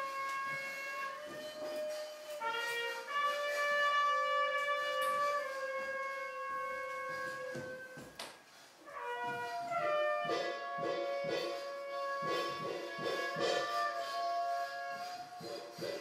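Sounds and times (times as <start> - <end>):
wind instrument holding long notes: 0.0 - 16.0.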